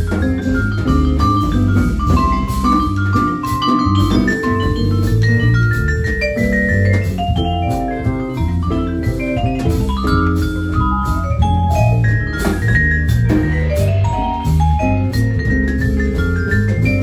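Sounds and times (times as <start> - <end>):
drums: 0.0 - 17.0
jazz guitar: 0.0 - 17.0
stepping bass line: 0.0 - 17.0
vibraphone mallet notes: 0.0 - 17.0.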